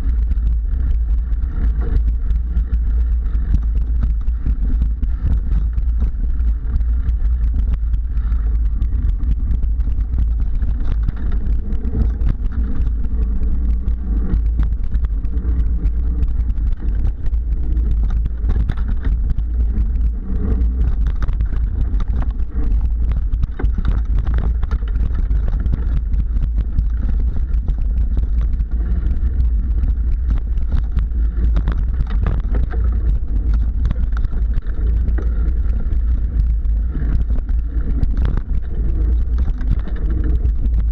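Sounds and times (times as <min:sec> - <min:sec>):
bike rattles and clicks: 0:00.0 - 0:40.9
bike riding low rumble: 0:00.0 - 0:40.9.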